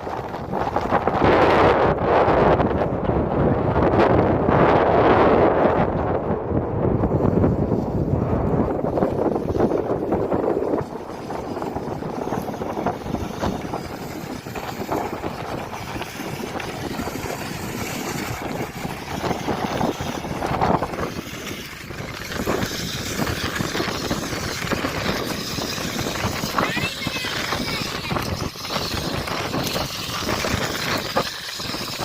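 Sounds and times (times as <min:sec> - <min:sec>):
rc monster trucks rumbling: 0:00.0 - 0:32.0.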